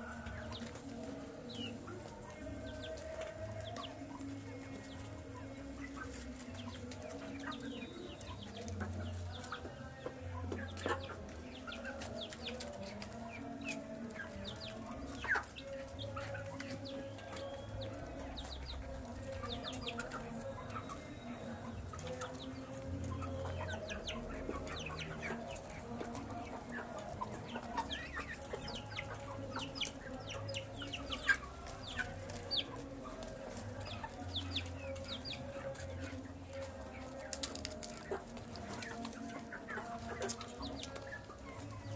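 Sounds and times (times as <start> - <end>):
baby chicks peeping: 0.0 - 41.9.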